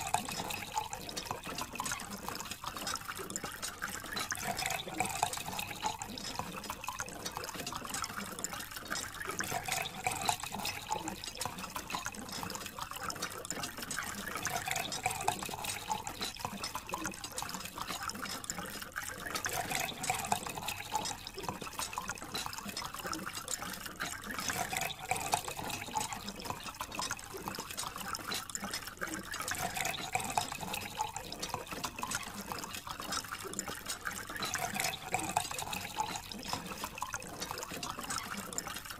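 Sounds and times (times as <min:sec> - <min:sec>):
water stream splashing and trickling: 0:00.0 - 0:38.9.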